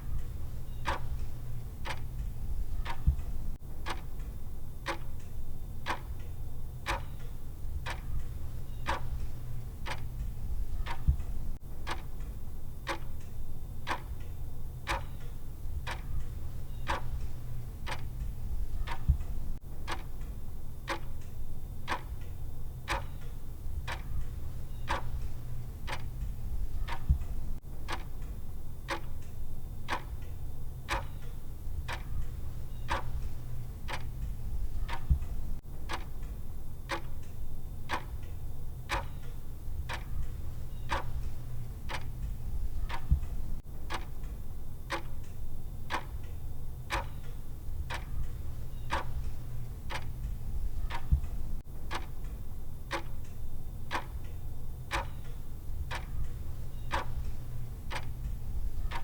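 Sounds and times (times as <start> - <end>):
clock ticking: 0.0 - 59.0
low steady hum: 0.0 - 59.0.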